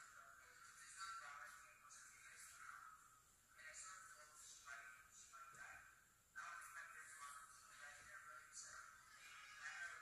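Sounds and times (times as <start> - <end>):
faint distant speech: 0.0 - 10.0.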